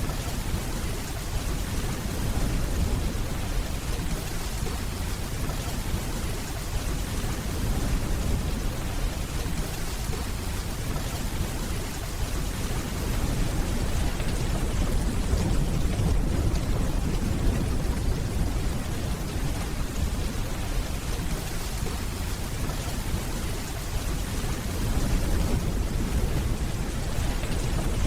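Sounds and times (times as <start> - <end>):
distant rolling thunder: 0.0 - 28.0
steady rainfall: 0.0 - 28.0.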